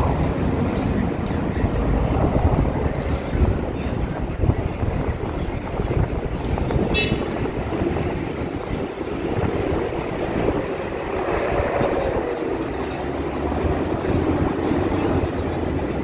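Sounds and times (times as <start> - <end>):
bus engine drone passing: 0.0 - 6.8, 7.4 - 16.0
street traffic: 0.0 - 16.0
wind buffeting microphone: 0.0 - 16.0.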